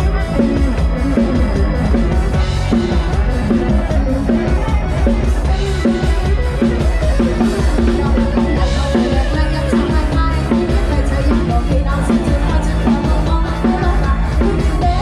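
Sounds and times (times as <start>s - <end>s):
drum kit fast beat: 0.0s - 15.0s
repeating pitched instrument lines: 0.0s - 15.0s.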